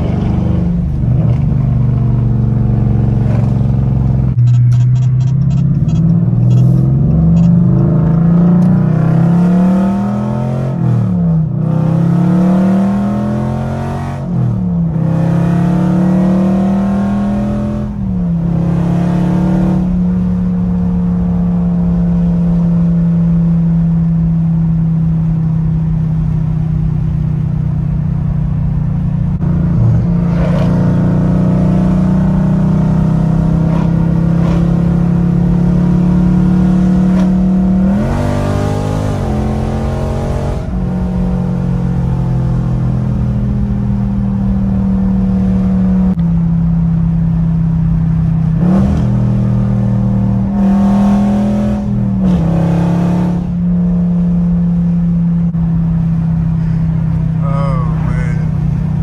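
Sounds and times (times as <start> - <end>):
loud car engine accelerating: 0.0 - 59.0.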